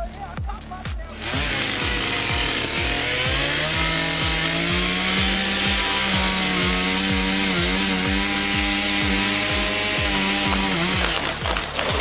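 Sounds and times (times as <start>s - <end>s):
bass drum beat music: 0.0s - 12.0s
chainsaw cutting wood: 1.1s - 12.0s.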